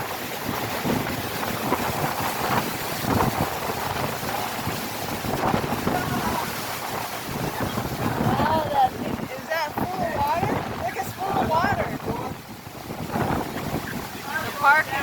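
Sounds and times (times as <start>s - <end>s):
strong wind gusting: 0.0s - 15.0s
wind buffeting microphone: 0.0s - 15.0s.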